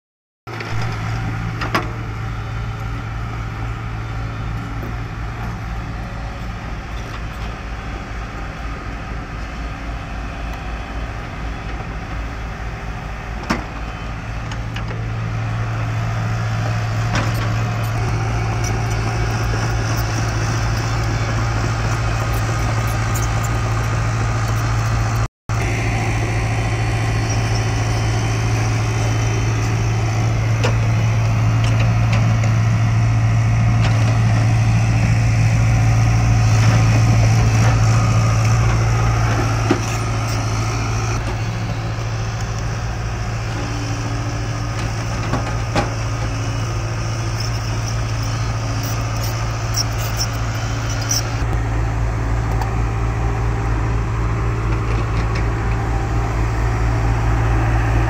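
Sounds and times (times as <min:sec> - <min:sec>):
excavator diesel engine droning: 0:00.5 - 0:58.0.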